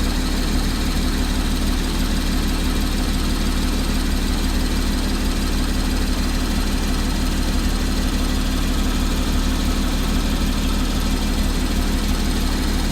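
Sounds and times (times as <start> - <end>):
car engine idling: 0.0 - 12.9
engine ticking: 0.0 - 12.9.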